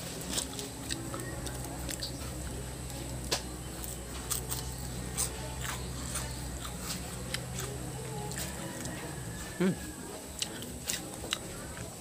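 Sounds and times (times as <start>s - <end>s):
chewing crunchy fritter: 0.0s - 12.0s
low hum: 0.0s - 12.0s.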